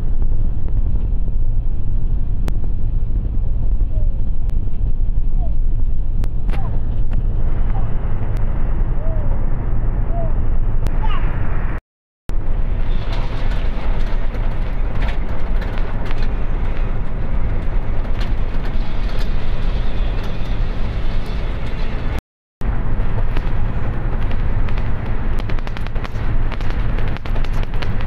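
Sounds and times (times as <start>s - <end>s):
vehicle road noise from inside: 0.0s - 28.0s.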